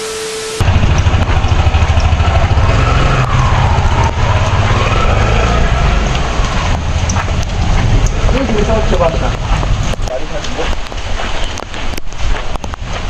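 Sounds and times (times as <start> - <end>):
vehicle engine rumbling: 0.6 - 11.6.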